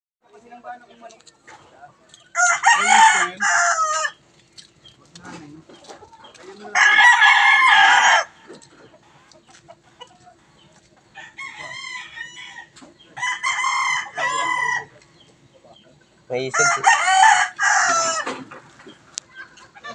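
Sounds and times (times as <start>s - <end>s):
roosters crowing: 1.6s - 4.4s, 5.3s - 19.9s.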